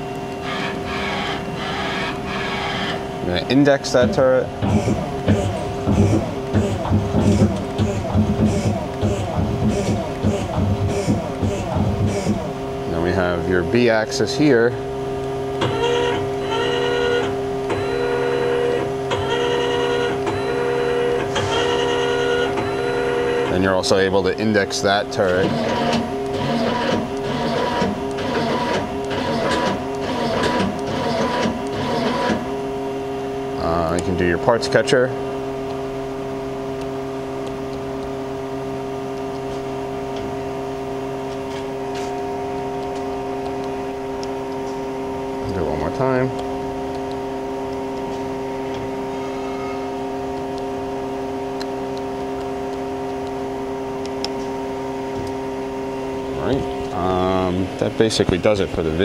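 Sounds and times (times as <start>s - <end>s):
servo motor whine: 0.0s - 24.1s, 24.9s - 34.4s, 38.8s - 57.6s
machine hum: 0.0s - 59.0s.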